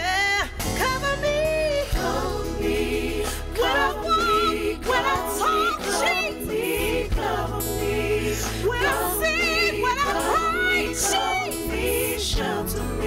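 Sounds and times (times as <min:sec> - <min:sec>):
keyboard and bass accompaniment: 0:00.0 - 0:13.0
voices singing with vibrato: 0:01.8 - 0:13.0.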